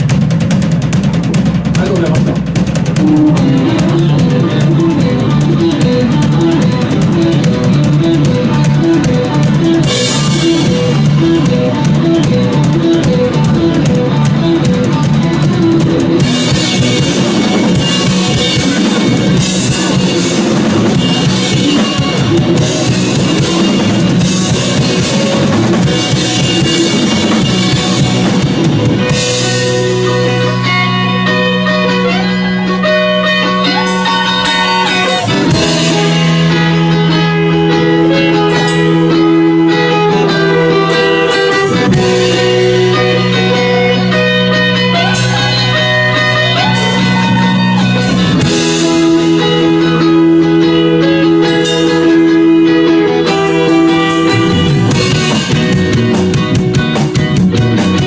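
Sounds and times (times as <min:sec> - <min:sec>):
bass line: 0:00.0 - 0:58.0
drum kit with cymbals: 0:00.0 - 0:58.0
electric guitar: 0:00.0 - 0:58.0.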